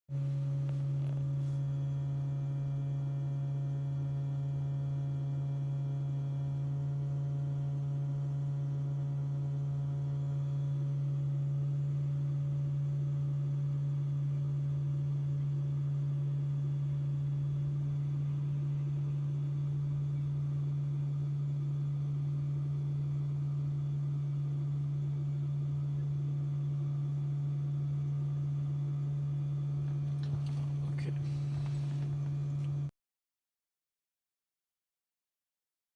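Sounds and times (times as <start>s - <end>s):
electrical buzzing hum: 0.1s - 32.9s.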